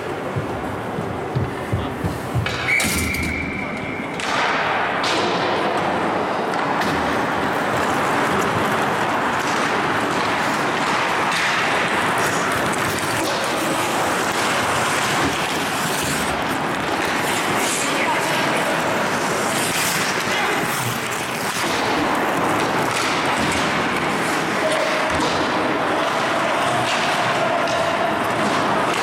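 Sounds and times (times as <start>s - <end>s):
hockey sticks and puck clacking: 0.0s - 29.0s
skates scraping ice: 0.0s - 29.0s.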